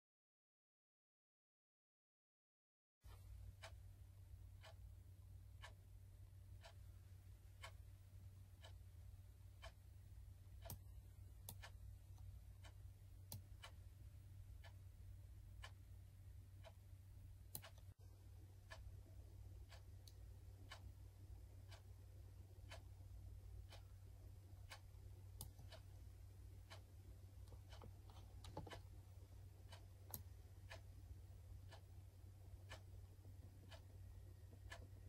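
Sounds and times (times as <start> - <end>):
faint even ticking: 3.1 - 35.0
low steady hum: 3.1 - 35.0.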